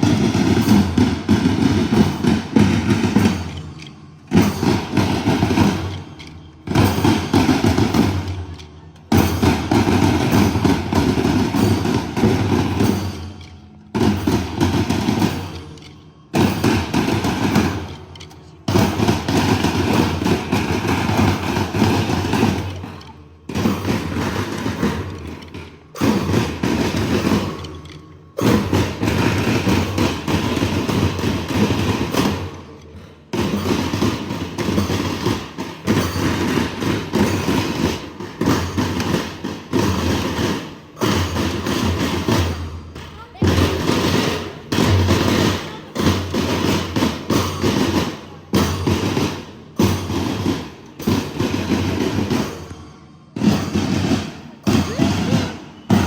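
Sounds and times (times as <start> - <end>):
marching band drums: 0.0 - 56.0.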